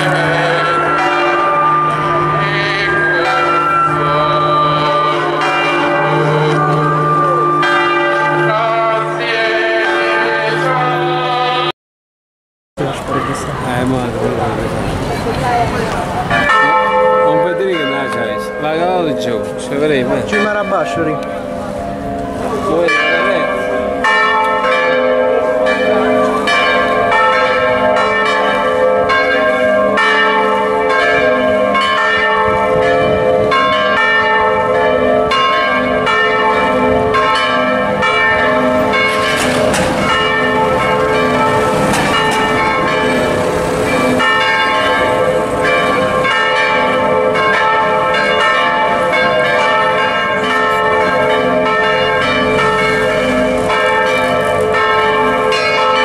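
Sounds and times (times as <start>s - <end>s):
church bells pealing: 0.0s - 11.7s, 12.8s - 56.0s.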